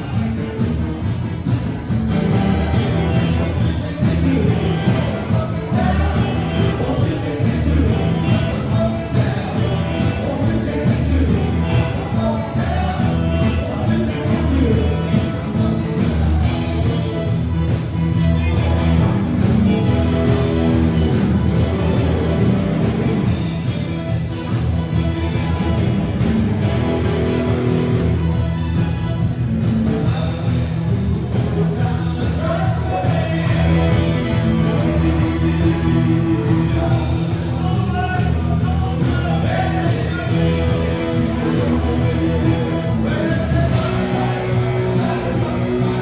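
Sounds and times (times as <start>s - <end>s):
person singing: 0.0s - 24.3s, 30.0s - 46.0s
rock band playing: 0.0s - 46.0s
steady drum beat: 0.0s - 46.0s.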